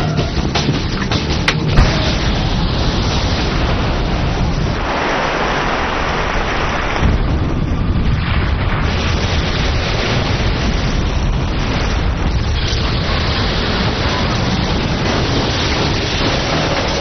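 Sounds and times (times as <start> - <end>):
volcanic eruption roar: 1.7 - 17.0.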